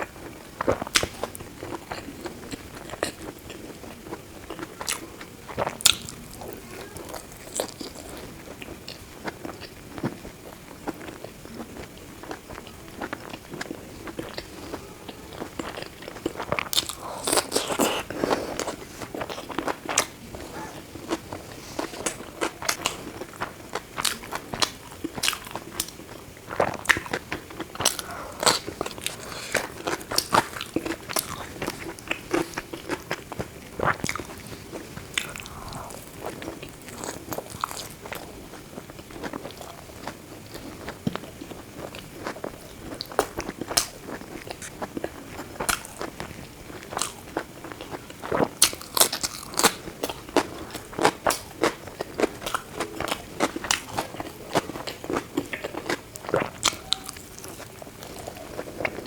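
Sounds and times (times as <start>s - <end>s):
person chewing and crunching: 0.2s - 59.0s.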